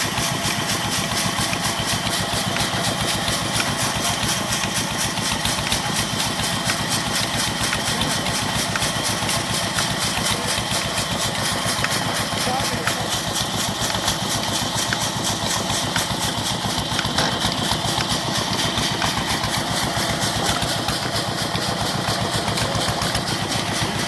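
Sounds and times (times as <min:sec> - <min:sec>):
stationary diesel engine running: 0:00.0 - 0:24.0.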